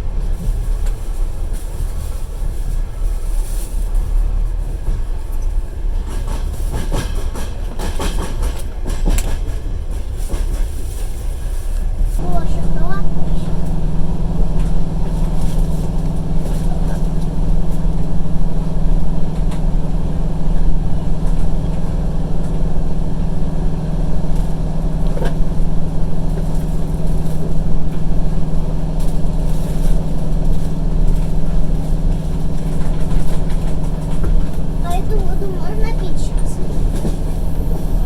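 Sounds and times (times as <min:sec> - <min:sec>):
train carriage mechanical hum: 0:00.0 - 0:38.0.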